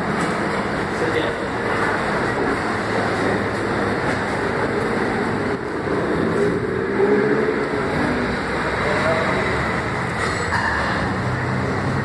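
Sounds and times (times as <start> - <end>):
steady rumbling background noise: 0.0 - 12.0.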